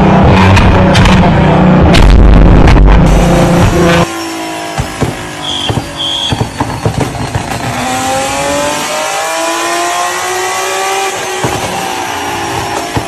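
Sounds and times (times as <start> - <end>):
car engine revving: 0.0 - 13.0
car exhaust popping and banging: 0.3 - 9.2, 11.0 - 13.0.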